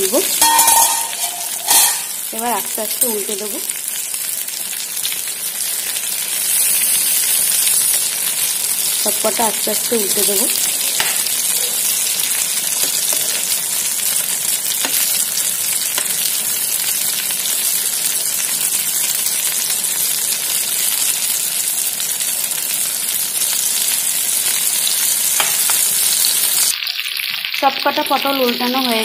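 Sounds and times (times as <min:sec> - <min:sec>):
vegetables sizzling in oil: 0:00.0 - 0:29.0.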